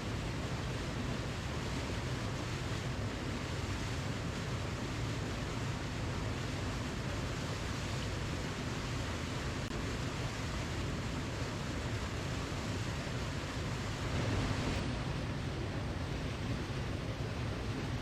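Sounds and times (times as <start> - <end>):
waterfall roaring: 0.1 - 18.0.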